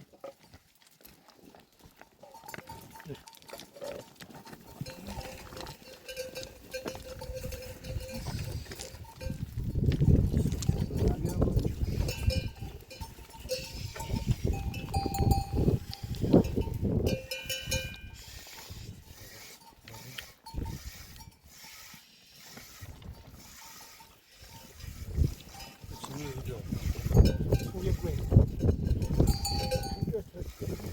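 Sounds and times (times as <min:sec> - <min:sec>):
livestock bells clanking: 0:02.0 - 0:18.3, 0:19.2 - 0:21.6, 0:23.2 - 0:30.9.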